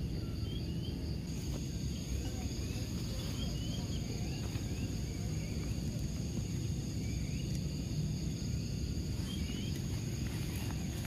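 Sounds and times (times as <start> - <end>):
bird chirps: 0.0 - 7.9, 9.2 - 10.9
insects trilling: 0.0 - 11.0.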